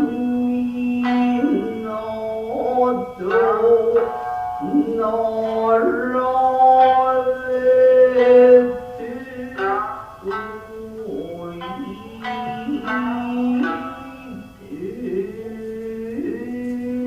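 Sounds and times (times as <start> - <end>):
person singing long held line: 0.0 - 17.0
plucked shamisen notes: 0.0 - 17.0.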